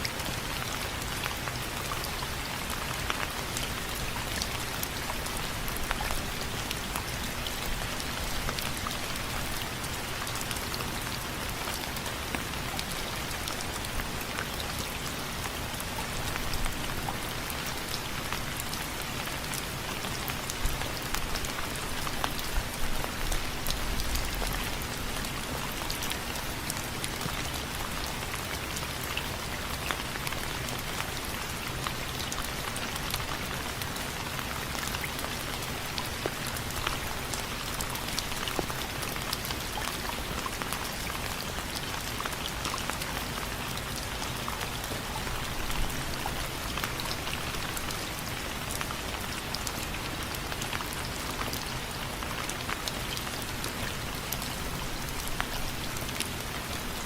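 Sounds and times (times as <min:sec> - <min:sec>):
rain pattering on windows: 0:00.0 - 0:57.0.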